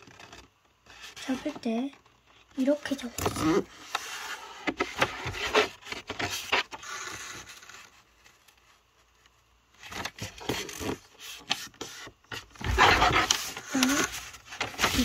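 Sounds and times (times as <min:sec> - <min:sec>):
paper rustling and folding: 0:00.0 - 0:15.0.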